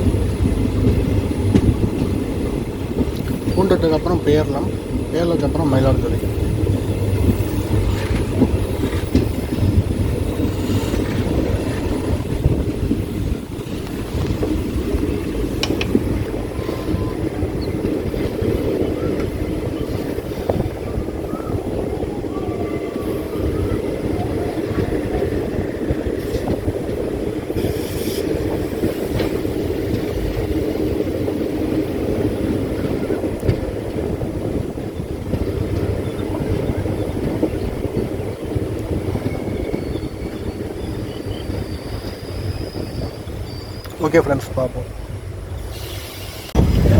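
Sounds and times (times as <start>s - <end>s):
train rumble from inside coach: 0.0s - 46.9s.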